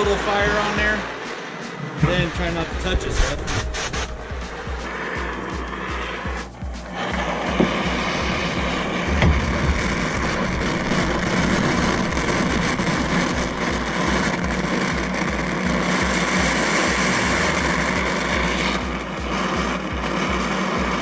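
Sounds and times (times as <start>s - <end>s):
cutting torch rushing hiss: 0.0s - 21.0s.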